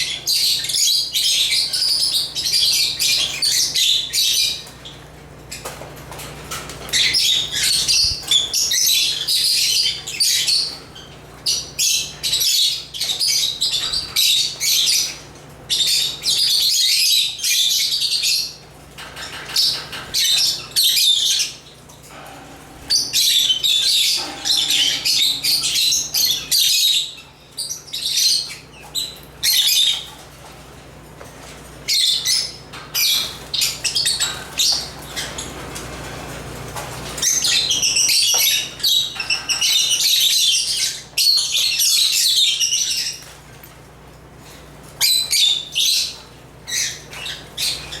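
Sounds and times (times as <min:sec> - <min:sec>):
lovebirds chattering: 0:00.0 - 0:30.3, 0:31.8 - 0:43.4, 0:44.9 - 0:48.0.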